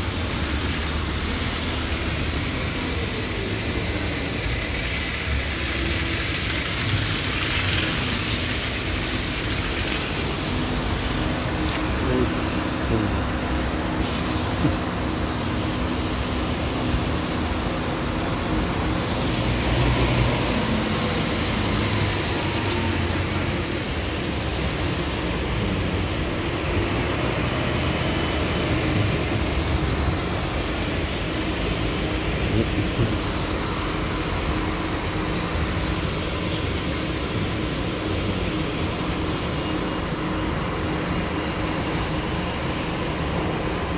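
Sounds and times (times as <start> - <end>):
diesel buses passing and idling: 0.0 - 43.9
tyres hissing on wet road: 0.0 - 43.9.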